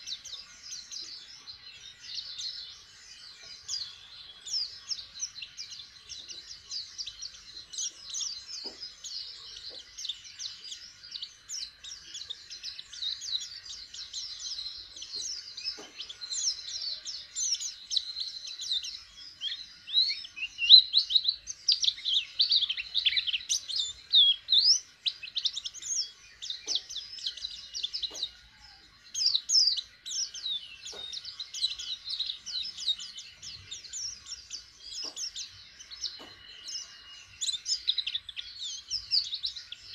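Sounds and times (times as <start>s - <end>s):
bird twittering and trilling: 0.0s - 39.9s.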